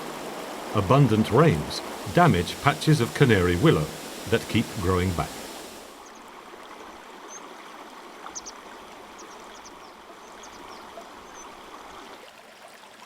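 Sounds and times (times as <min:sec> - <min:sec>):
small stream running: 0:00.0 - 0:13.0.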